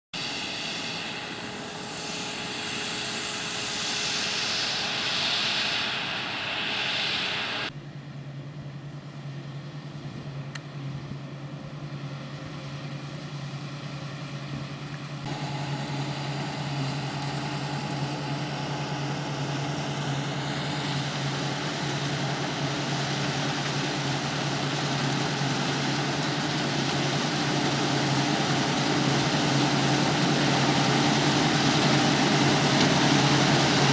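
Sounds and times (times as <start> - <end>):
diesel engine drone: 0.2 - 33.9.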